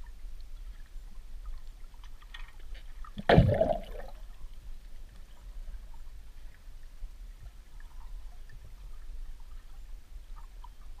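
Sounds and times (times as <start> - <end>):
underwater low rumble: 0.0 - 11.0.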